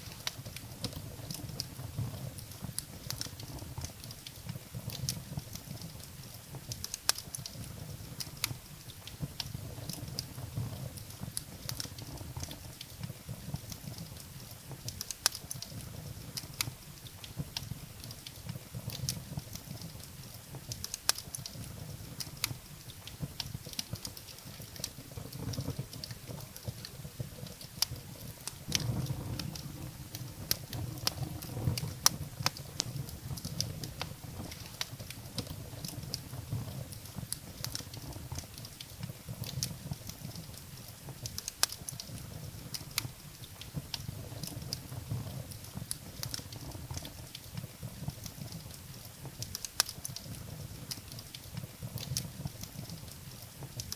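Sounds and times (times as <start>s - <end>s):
firewood crackling and popping: 0.0s - 53.9s
low rumble of flames: 0.0s - 53.9s.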